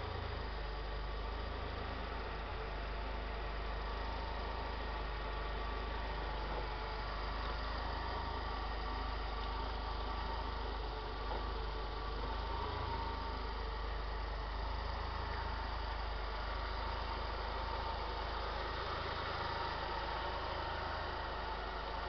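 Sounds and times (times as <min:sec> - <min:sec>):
car engine idling: 0:00.0 - 0:22.0
thin steady whine: 0:00.0 - 0:22.0.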